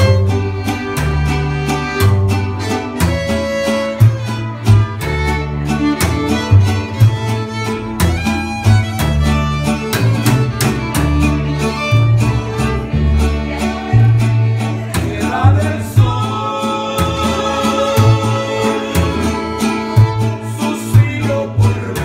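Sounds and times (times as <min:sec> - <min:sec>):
violin melody: 0:00.0 - 0:14.9, 0:17.1 - 0:20.7
strummed acoustic guitar: 0:00.0 - 0:22.0
upright bass notes: 0:00.0 - 0:22.0.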